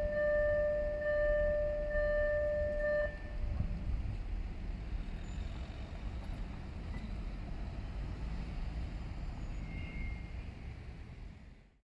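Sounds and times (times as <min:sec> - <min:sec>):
low rumble of cars: 0:00.0 - 0:11.8.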